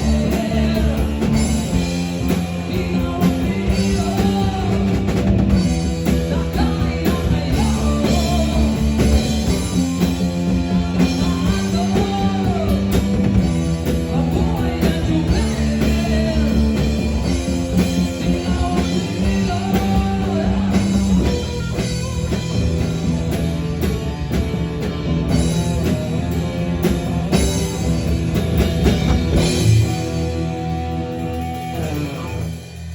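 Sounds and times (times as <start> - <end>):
guitar: 0.0 - 32.9
rock band playing: 0.0 - 32.9.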